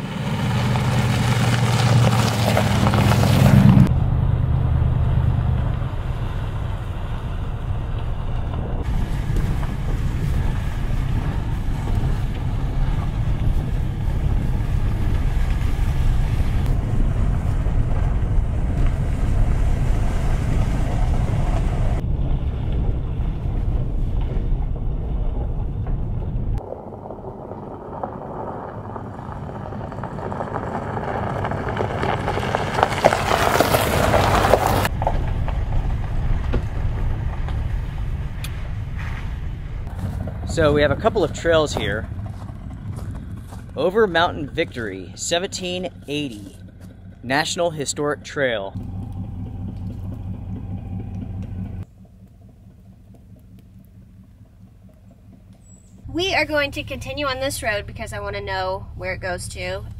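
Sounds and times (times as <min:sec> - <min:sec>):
truck engine and road drone: 0:00.0 - 0:59.9
truck rolling on snowy gravel: 0:00.0 - 0:59.9.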